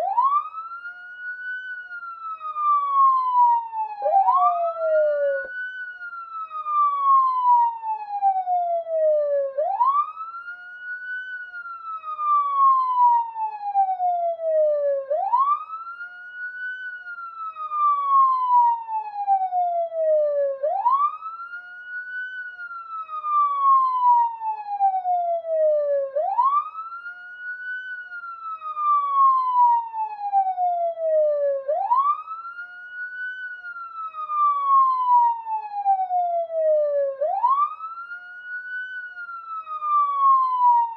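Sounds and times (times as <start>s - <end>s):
police siren wailing: 0.0s - 40.9s.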